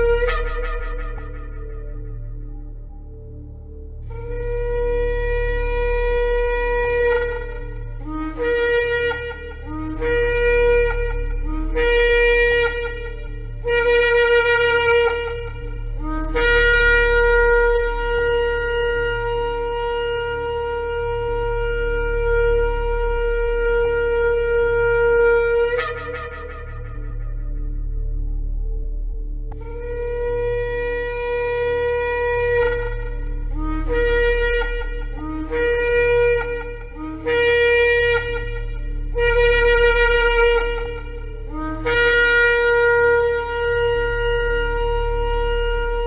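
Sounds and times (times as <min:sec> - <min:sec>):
ram's horn blasts: 0:00.0 - 0:46.0.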